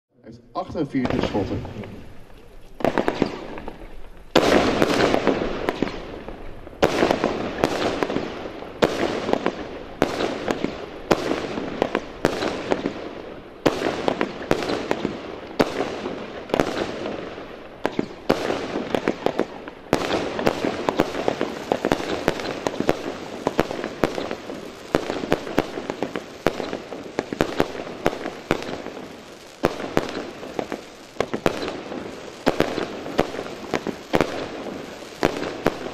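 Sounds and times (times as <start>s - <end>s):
firework crackling pops: 1.0s - 35.9s.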